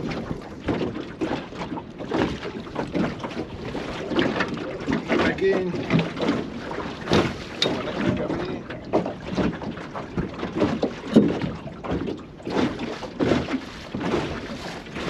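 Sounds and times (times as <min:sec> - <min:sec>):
water splashes: 0:00.0 - 0:15.0.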